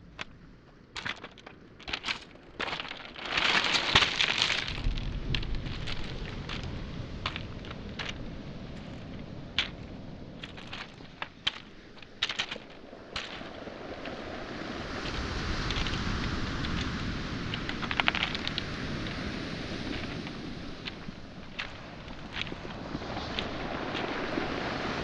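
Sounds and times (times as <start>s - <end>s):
footsteps on pebbles: 0.0s - 25.0s
wave washing over shingle: 0.0s - 25.0s.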